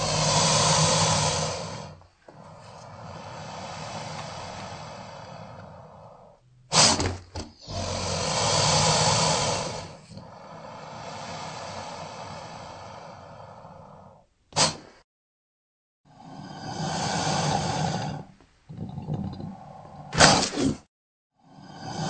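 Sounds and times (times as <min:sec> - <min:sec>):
alligator hissing: 0:00.0 - 0:15.0, 0:16.1 - 0:20.9.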